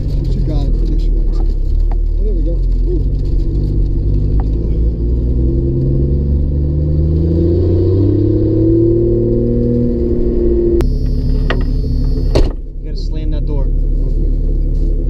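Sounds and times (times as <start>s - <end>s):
car engine accelerating: 0.0s - 15.0s
road noise inside car: 0.0s - 15.0s.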